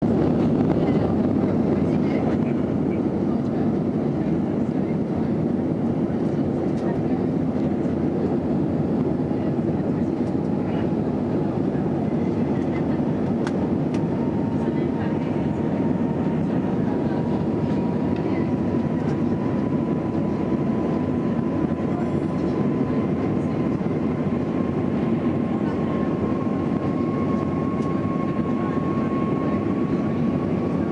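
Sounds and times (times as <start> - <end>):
airliner engine rumble: 0.0 - 30.9
faint voices: 0.1 - 30.9.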